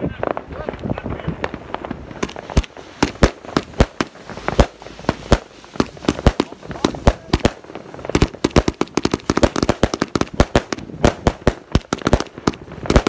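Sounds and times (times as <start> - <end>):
firework crackle: 0.0 - 13.0
firework shots and bangs: 0.0 - 13.0.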